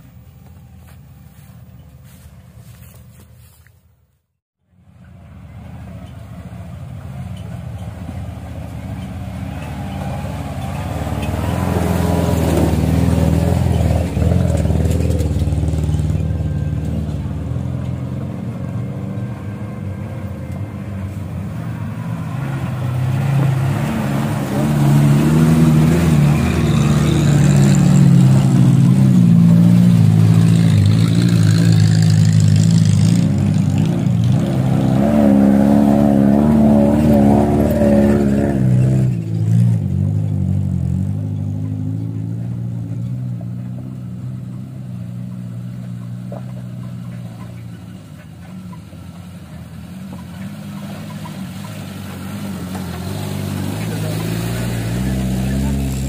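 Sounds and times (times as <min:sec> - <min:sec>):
vehicle engine revving: 0:06.7 - 0:56.0.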